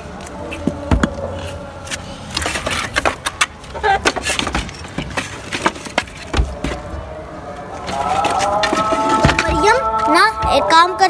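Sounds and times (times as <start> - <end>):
wooden planks clattering: 0.6 - 7.1, 7.7 - 10.6.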